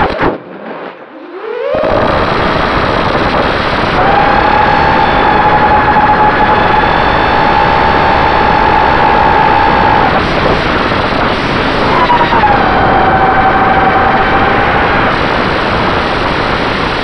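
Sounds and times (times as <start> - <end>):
rush of wind and prop noise: 0.0 - 17.0
quadcopter motors whining: 1.4 - 16.4.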